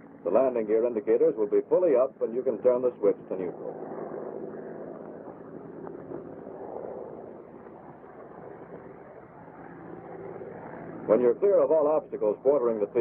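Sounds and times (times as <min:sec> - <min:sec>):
propeller aircraft engine drone: 0:00.0 - 0:13.0.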